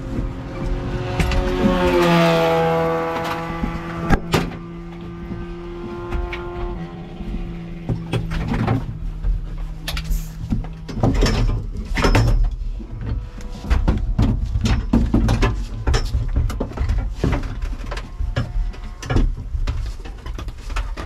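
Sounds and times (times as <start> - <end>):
race car engine in cabin: 0.0 - 21.0.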